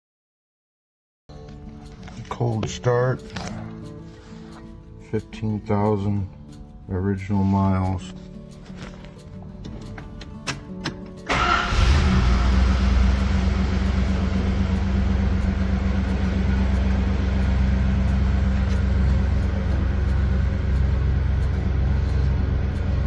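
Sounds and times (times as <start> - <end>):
car engine starting and idling: 1.3 - 23.0.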